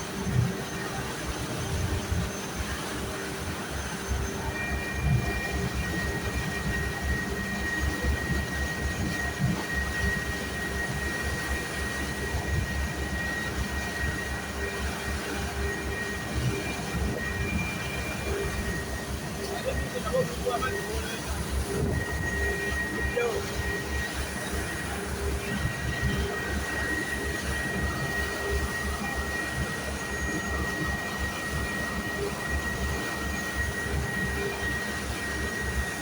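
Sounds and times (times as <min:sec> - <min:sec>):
boat engine rumbling: 0:00.0 - 0:36.0
high steady whine: 0:00.0 - 0:36.0.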